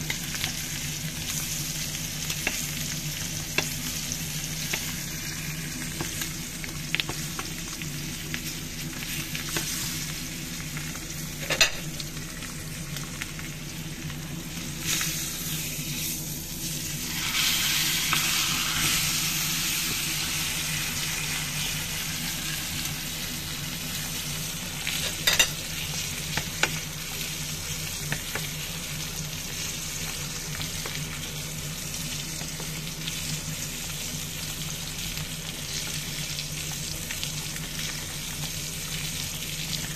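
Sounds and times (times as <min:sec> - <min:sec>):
low steady hum: 0:00.0 - 0:39.9
steak sizzling in a skillet: 0:00.0 - 0:39.9.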